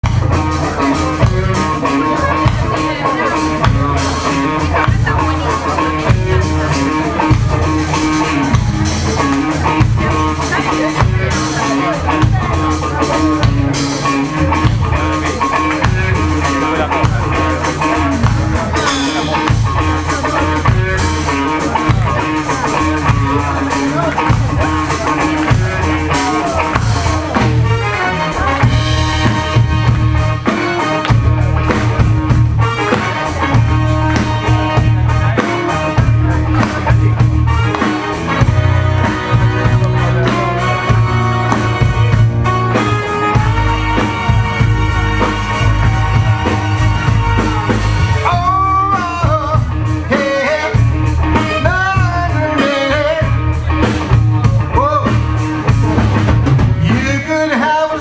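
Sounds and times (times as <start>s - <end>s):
rock band music: 0.0s - 58.0s.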